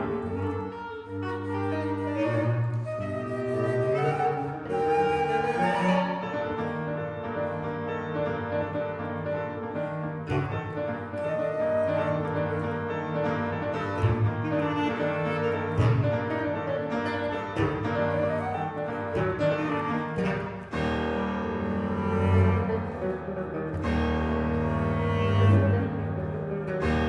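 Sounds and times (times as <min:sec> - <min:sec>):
classical chamber music: 0:00.0 - 0:27.0
double bass: 0:00.0 - 0:27.0
piano: 0:00.0 - 0:27.0.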